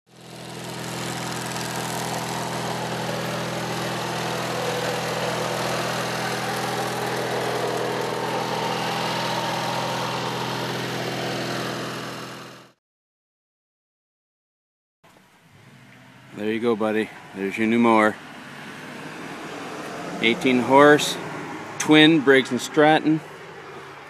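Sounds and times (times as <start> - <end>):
lawn tractor engine running: 0.1 - 12.8, 15.2 - 24.0.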